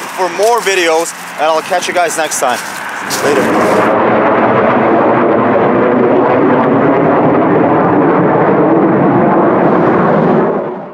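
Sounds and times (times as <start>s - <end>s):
jet engine roar: 0.0s - 10.9s.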